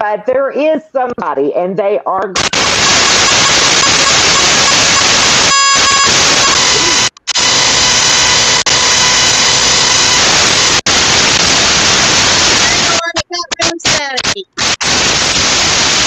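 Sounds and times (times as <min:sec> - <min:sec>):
harsh static hiss: 0:02.4 - 0:16.0.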